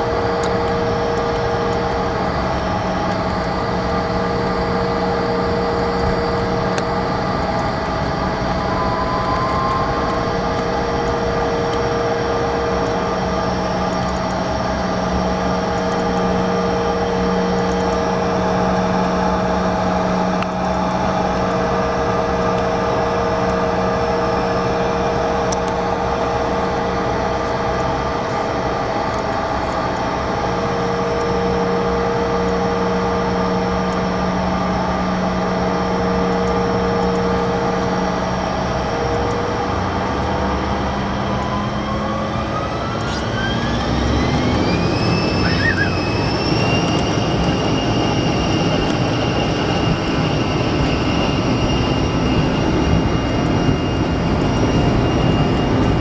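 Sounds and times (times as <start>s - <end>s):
jet engine hum: 0.0s - 56.0s.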